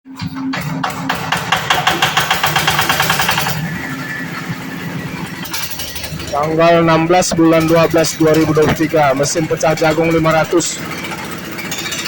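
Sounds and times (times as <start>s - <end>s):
corn sheller machine clattering: 0.2s - 12.0s.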